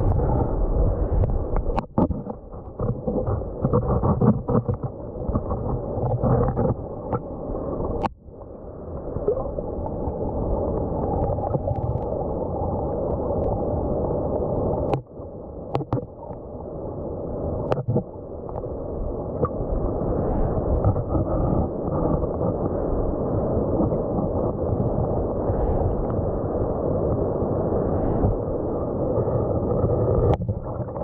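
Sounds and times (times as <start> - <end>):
muffled underwater stream: 0.0 - 31.0.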